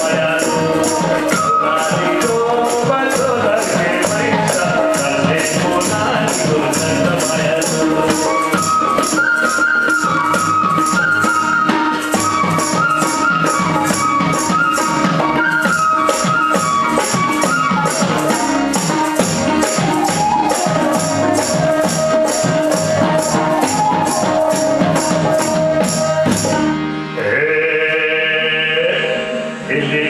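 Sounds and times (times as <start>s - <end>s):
jingling percussion beat: 0.0s - 26.8s
hand drums: 0.0s - 27.0s
bamboo flute: 0.0s - 29.8s
folk ensemble playing: 0.0s - 30.0s
harmonium: 0.0s - 30.0s
sarangi: 0.0s - 30.0s.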